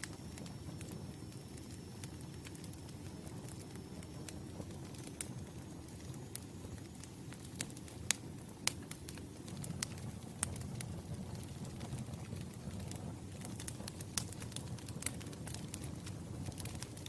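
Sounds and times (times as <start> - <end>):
campfire flames rumbling: 0.0 - 17.0
fire crackling and popping: 0.0 - 17.0.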